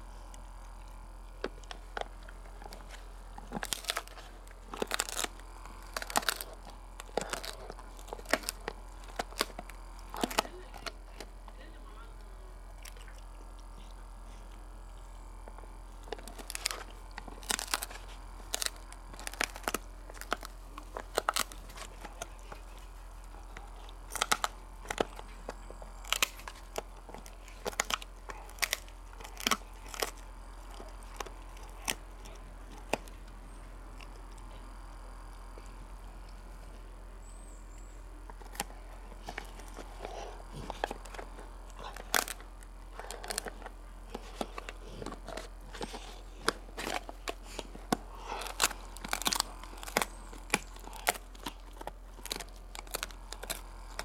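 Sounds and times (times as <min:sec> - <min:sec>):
dog chewing hard chew: 0:00.0 - 0:11.6, 0:12.6 - 0:54.0.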